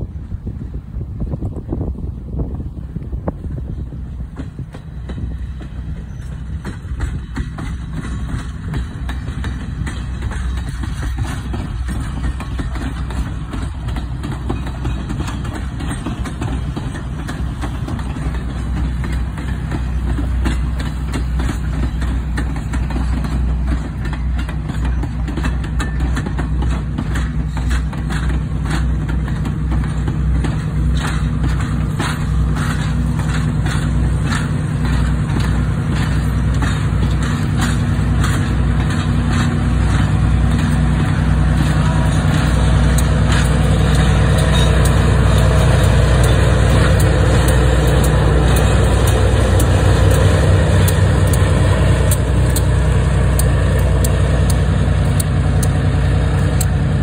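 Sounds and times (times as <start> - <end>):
diesel locomotive engine: 0.0 - 57.0
passenger train rolling past: 0.0 - 57.0
wheels clicking over rail joints: 0.2 - 57.0.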